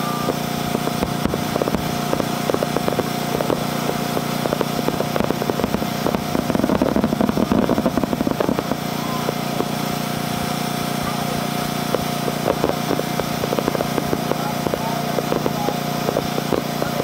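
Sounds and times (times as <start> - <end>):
fireworks popping and banging: 0.0 - 17.0
steady droning hum: 0.0 - 17.0.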